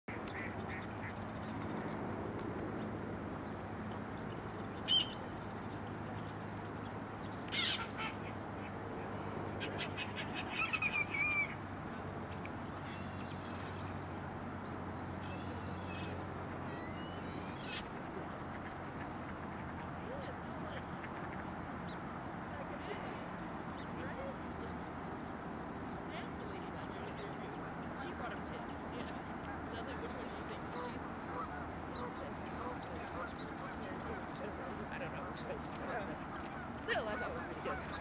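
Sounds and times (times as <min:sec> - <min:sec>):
marsh bird calls: 0:00.1 - 0:38.0
small birds chirping: 0:00.1 - 0:38.0.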